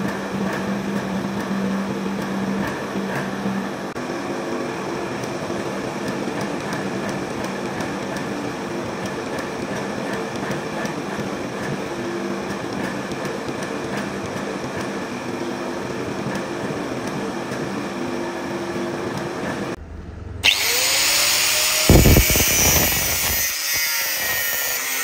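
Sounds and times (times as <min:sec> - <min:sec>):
hydraulic press motor hum: 0:00.0 - 0:24.8.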